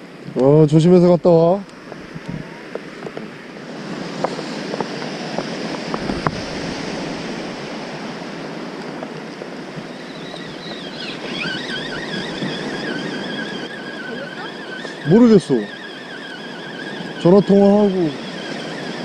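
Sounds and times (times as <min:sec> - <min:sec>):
waves washing onto beach: 0:00.0 - 0:19.0
wind on microphone: 0:00.0 - 0:19.0
fishing reel whine: 0:01.3 - 0:19.0.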